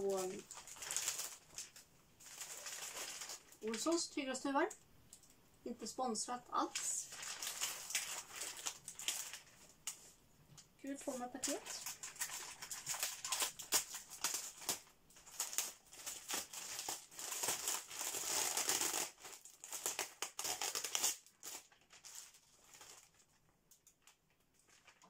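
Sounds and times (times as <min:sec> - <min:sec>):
plastic wrapping crinkling: 0:00.0 - 0:04.1, 0:06.6 - 0:10.2, 0:10.9 - 0:25.0.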